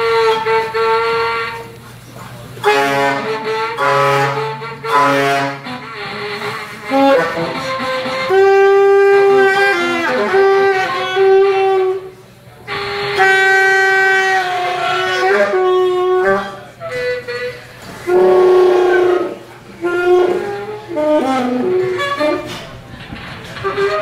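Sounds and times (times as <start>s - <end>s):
saxophone long notes: 0.0s - 2.0s, 2.6s - 22.8s, 23.6s - 24.0s.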